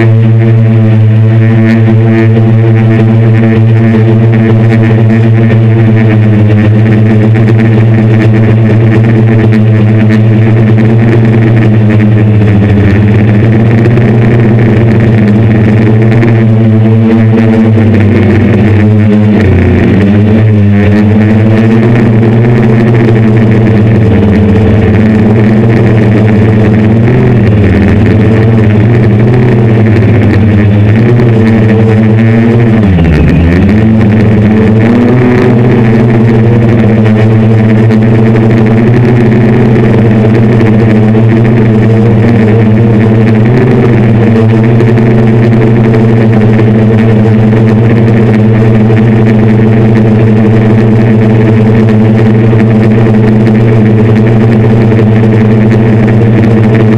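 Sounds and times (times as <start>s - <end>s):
drone motors whirring: 0.0s - 56.9s.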